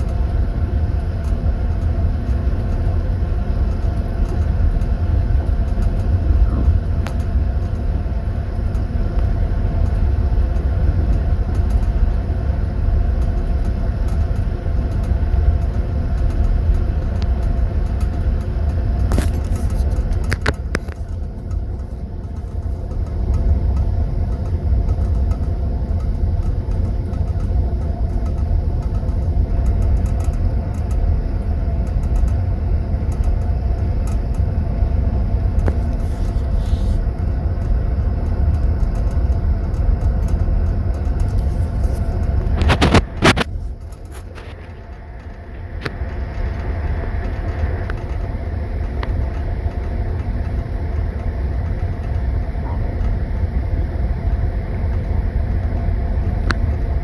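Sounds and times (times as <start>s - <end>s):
train carriage rumbling on rails: 0.0s - 57.0s.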